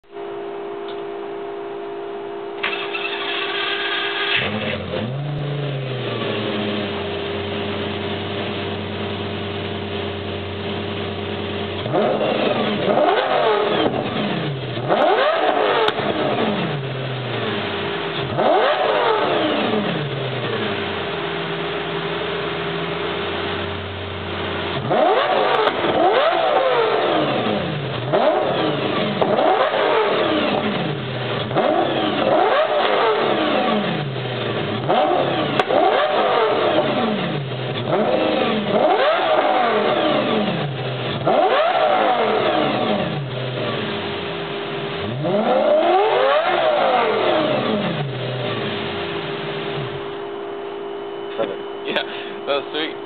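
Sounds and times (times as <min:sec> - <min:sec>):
car engine idling: 0:00.0 - 0:53.0
sports car engine revving: 0:02.5 - 0:53.0.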